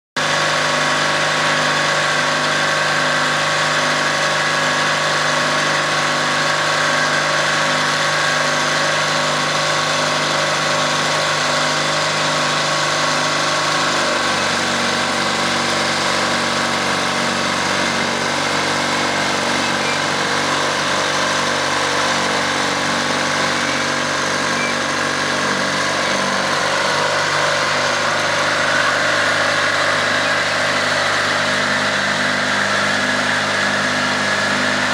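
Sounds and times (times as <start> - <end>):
bulldozer diesel engine running: 0.2 - 34.9.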